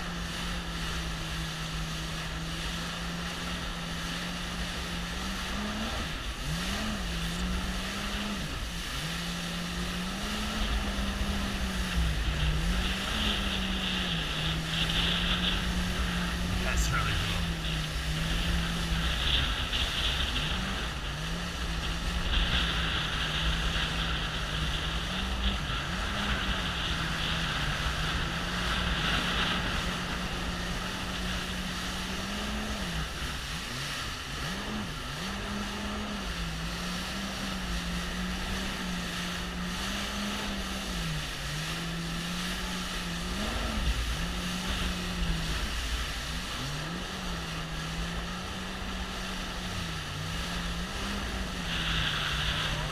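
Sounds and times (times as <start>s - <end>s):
jet ski engine running: 0.0s - 52.9s
rushing water: 0.0s - 52.9s
wind noise: 0.0s - 52.9s.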